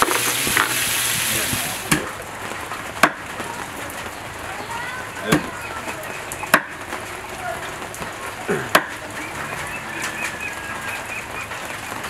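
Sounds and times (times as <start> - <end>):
faint background chatter: 0.3 - 12.0.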